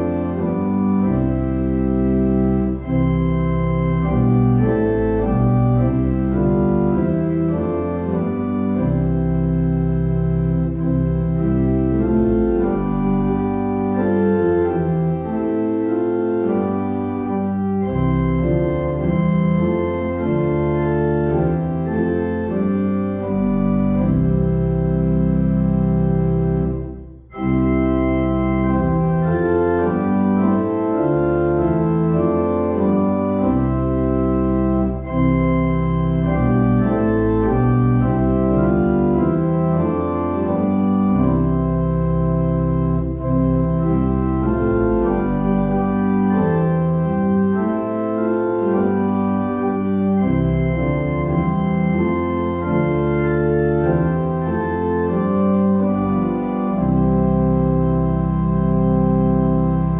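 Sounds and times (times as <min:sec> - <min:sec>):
organ playing a hymn: 0:00.0 - 0:59.9.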